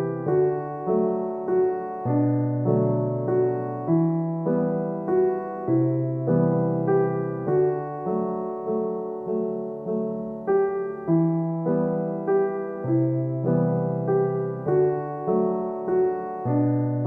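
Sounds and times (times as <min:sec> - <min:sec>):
slow solo piano piece: 0:00.0 - 0:17.0.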